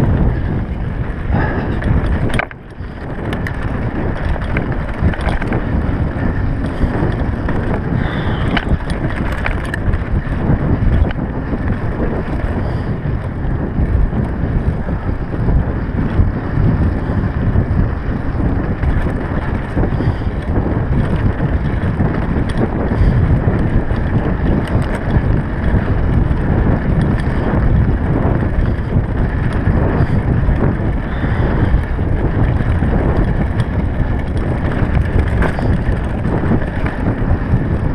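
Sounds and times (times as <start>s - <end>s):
bike rattling over bumps: 0.0s - 37.9s
wind on microphone: 0.0s - 37.9s.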